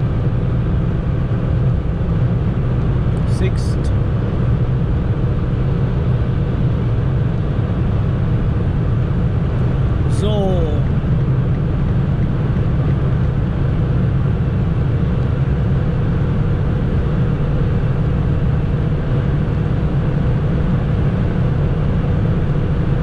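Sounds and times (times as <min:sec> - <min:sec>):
car engine drone: 0:00.0 - 0:23.0
faint steady whine: 0:00.0 - 0:23.0
road and wind noise: 0:00.0 - 0:23.0.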